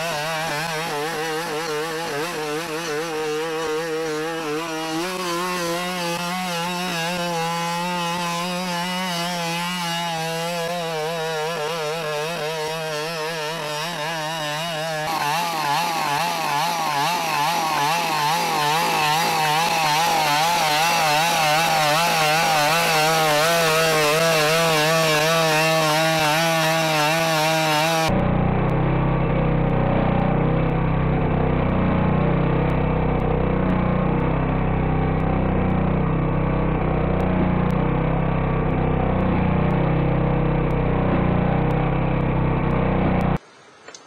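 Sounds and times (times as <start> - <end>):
small two-stroke engine buzzing: 0.0 - 43.4.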